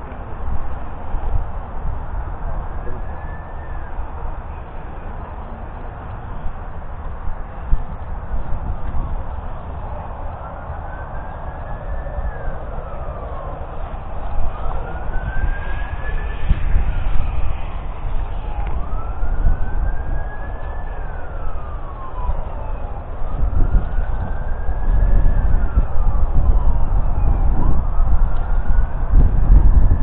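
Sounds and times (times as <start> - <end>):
low unsteady rumble: 0.0 - 30.0
siren-like wail: 0.6 - 5.7, 6.3 - 30.0.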